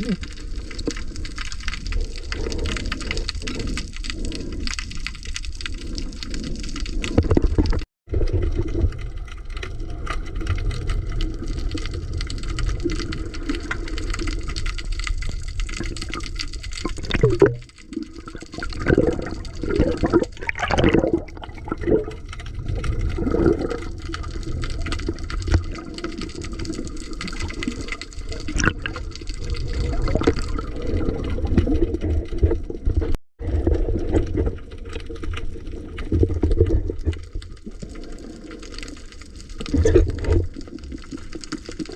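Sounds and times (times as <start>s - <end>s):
muffled water sloshing underwater: 0.0s - 41.9s.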